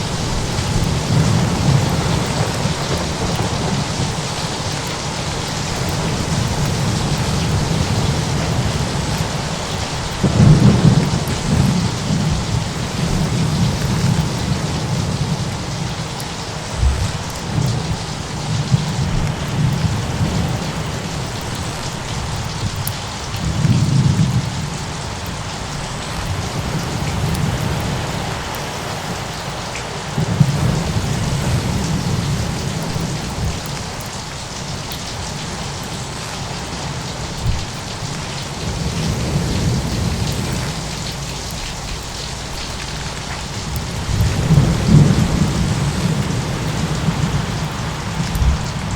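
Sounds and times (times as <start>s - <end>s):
heavy rain: 0.0s - 48.9s
low thunder rumbling: 0.0s - 48.9s.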